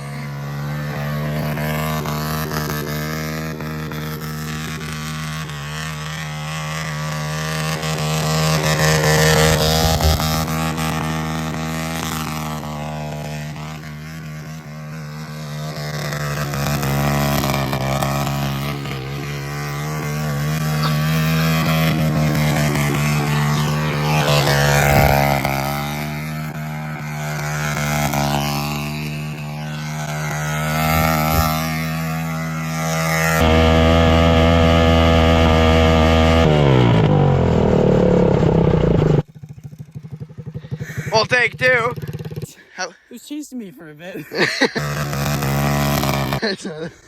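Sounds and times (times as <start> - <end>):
quad engine running: 0.0 - 43.1, 44.2 - 47.0.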